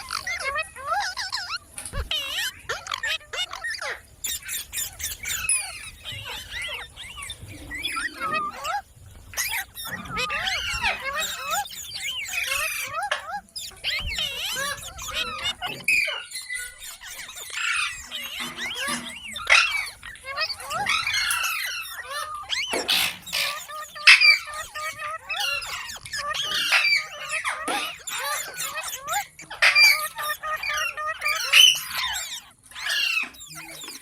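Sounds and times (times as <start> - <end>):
parrot chattering: 0.0 - 8.8, 9.4 - 34.0.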